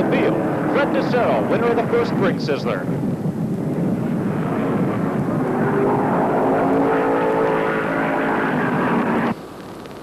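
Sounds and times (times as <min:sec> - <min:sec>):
car passing close: 0:00.0 - 0:09.4
racing car engines: 0:00.0 - 0:09.4.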